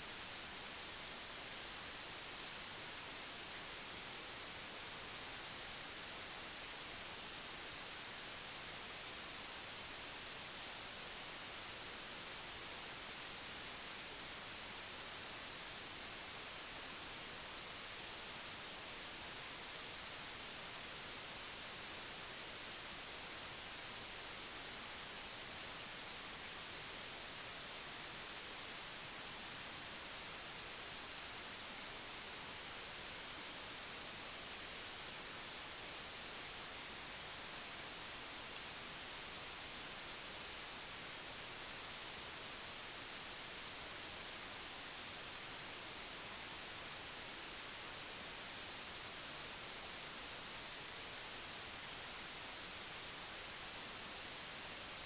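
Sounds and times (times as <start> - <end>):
steady static hiss: 0.0 - 55.0.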